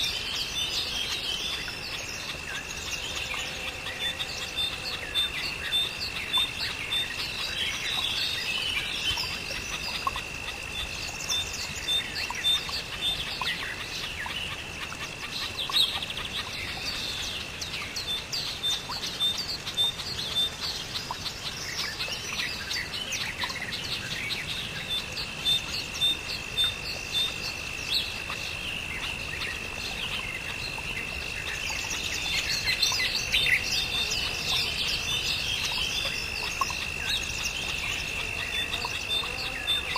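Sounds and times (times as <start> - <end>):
birds chirping and calling: 0.0 - 39.9
insect trill: 0.0 - 39.9.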